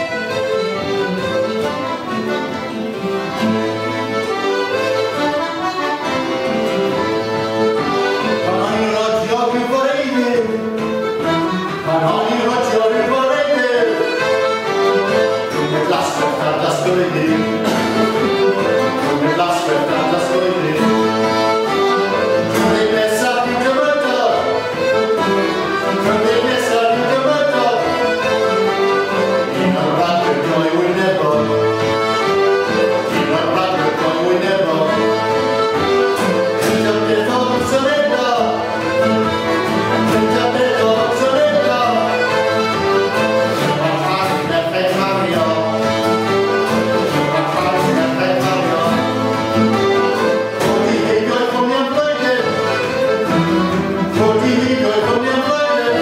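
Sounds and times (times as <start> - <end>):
accordion melody: 0.0 - 56.0
acoustic guitar: 0.0 - 56.0.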